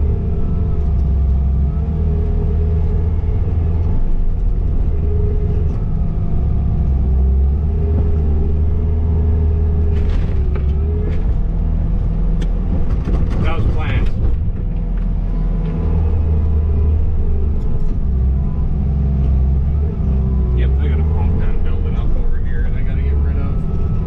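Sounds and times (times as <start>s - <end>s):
skid steer engine rumbling: 0.0s - 24.0s.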